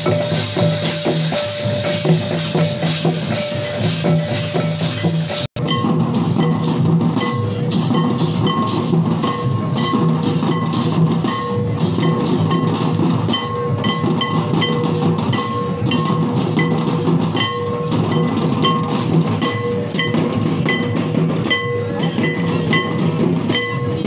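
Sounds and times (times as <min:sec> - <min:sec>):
steady drumbeat: 0:00.0 - 0:24.0.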